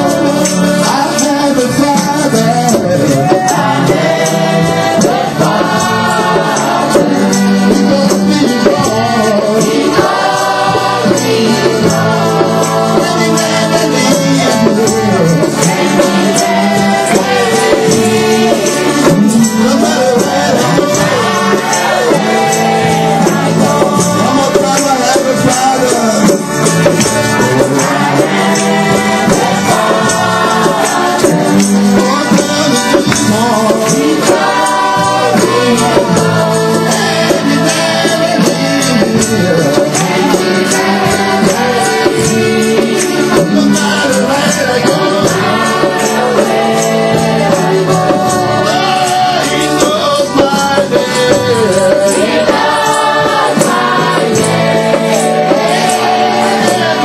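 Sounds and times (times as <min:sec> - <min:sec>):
shaken hand percussion: 0:00.0 - 0:57.0
voices singing worship music: 0:00.0 - 0:57.0.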